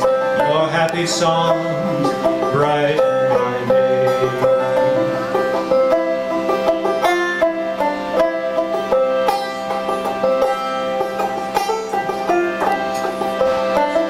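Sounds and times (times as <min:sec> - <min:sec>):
banjo picking a melody: 0:00.0 - 0:14.0
harmonium sustained chords: 0:00.0 - 0:14.0.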